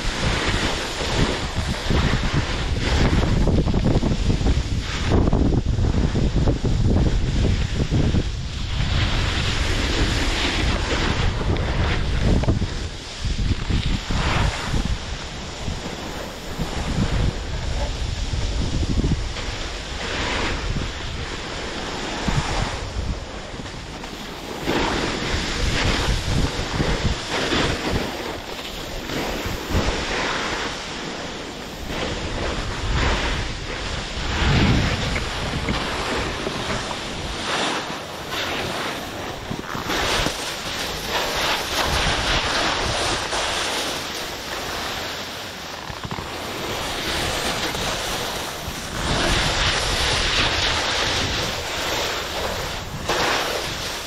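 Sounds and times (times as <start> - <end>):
skis sliding on snow: 0.0 - 54.0
wind buffeting microphone: 0.0 - 54.0.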